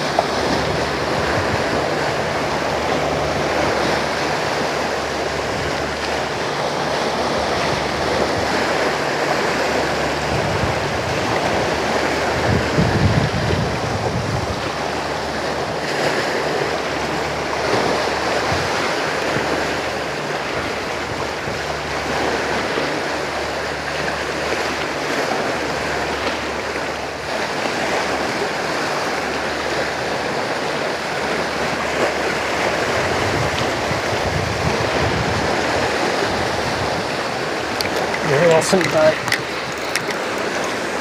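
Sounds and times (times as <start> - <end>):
waves washing against rocks: 0.0 - 41.0.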